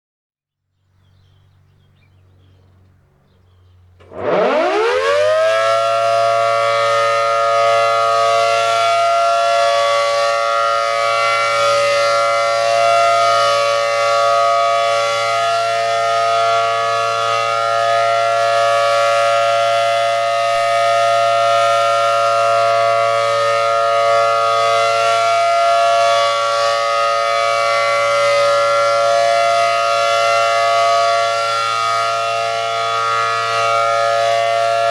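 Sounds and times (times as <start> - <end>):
rotating siren wailing: 4.0 - 34.9.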